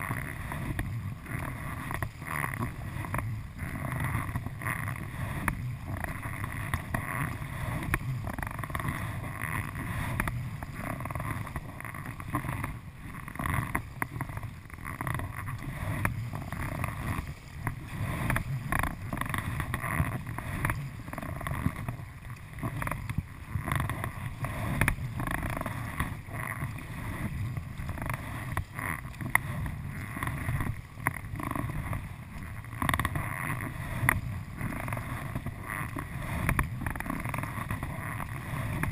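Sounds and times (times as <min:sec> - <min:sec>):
paddle splashing in water: 0:00.0 - 0:38.9
water sloshing against hull: 0:00.0 - 0:38.9.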